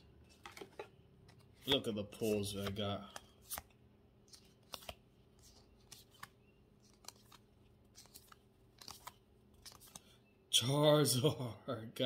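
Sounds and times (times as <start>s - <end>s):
trading cards flipped by hand: 0.3s - 10.2s.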